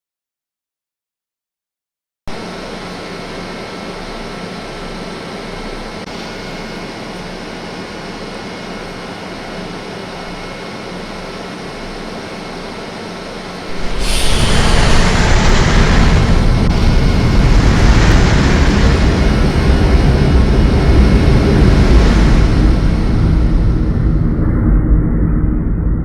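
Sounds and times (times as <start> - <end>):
metro train running: 2.4 - 24.6.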